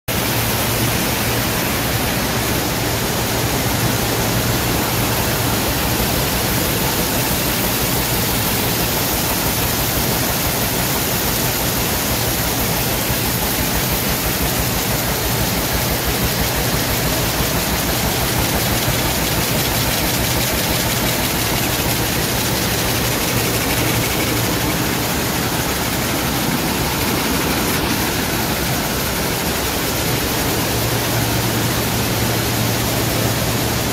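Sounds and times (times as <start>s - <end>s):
weaving loom clattering: 0.1s - 33.9s.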